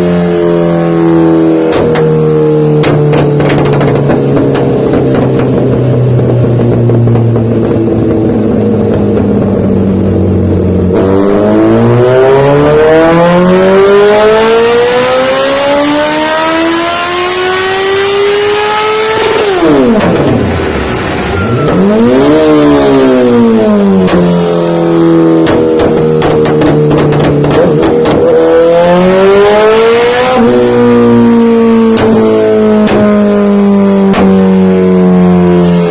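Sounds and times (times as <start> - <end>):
motorcycle engine revving: 0.0 - 35.9
exhaust popping: 0.9 - 12.2, 16.5 - 35.9.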